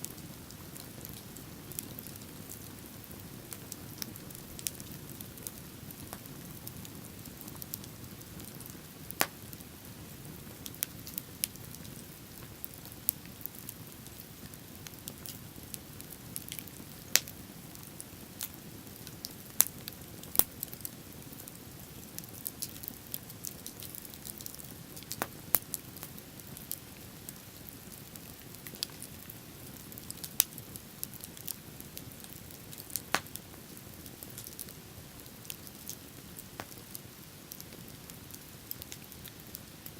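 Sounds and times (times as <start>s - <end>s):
wood bonfire crackling: 0.0s - 39.9s.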